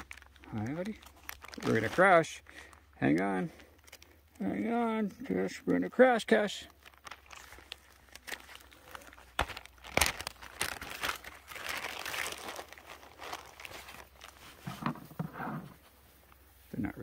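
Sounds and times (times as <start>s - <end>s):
rustling and crinkling: 0.0s - 17.0s.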